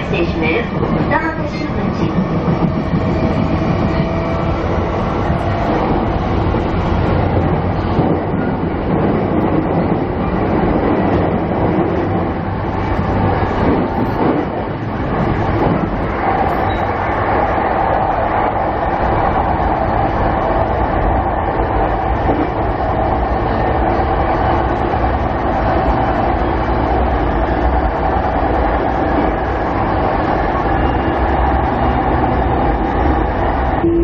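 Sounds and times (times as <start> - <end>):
train motor hum: 0.0 - 34.0
wheel and rail rumble: 0.0 - 34.0.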